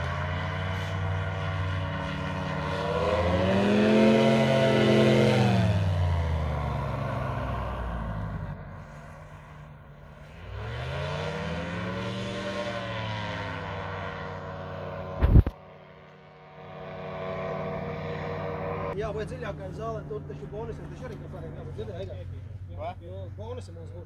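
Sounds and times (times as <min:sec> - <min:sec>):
paramotor engine passing by: 0:00.0 - 0:24.0.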